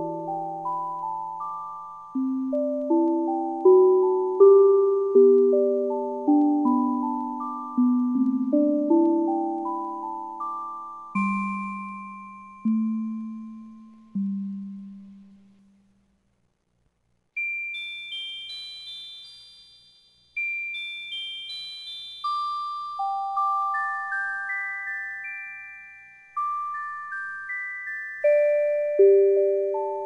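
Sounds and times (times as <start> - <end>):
slow music box melody: 0.0 - 15.8, 17.4 - 30.0.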